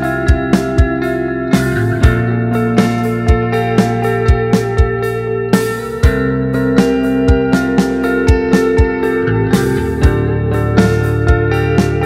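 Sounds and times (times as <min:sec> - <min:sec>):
drum kit hits: 0:00.0 - 0:12.0
guitar chords: 0:00.0 - 0:12.0.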